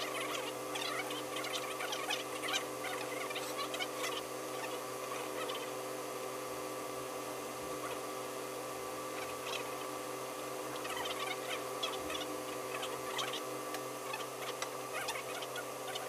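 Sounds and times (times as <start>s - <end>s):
steady hum of held tones: 0.0s - 16.0s.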